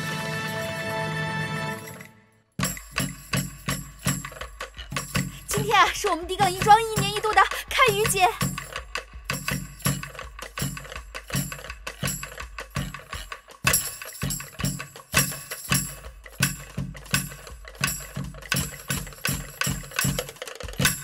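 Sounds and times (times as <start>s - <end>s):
drums beating steady rhythm: 2.6s - 21.0s.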